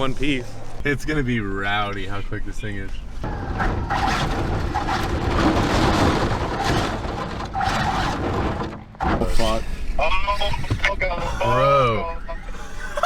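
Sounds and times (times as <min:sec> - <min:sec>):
wind and road noise from vehicle: 0:00.0 - 0:13.0.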